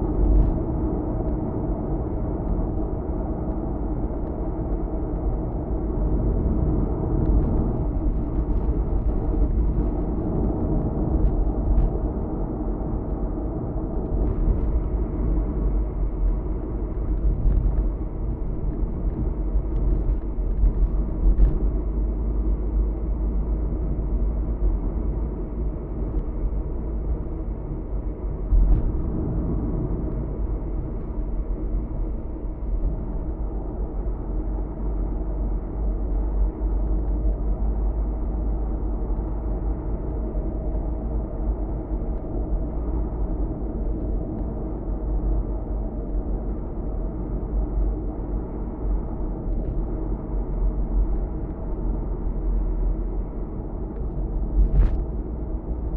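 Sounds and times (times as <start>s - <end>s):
car interior road rumble: 0.0s - 55.9s.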